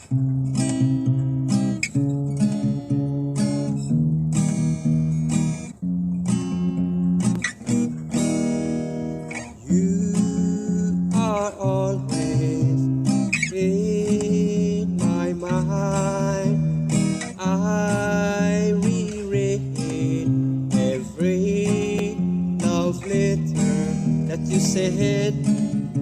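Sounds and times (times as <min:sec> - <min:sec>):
strummed acoustic guitar: 0:00.0 - 0:26.0.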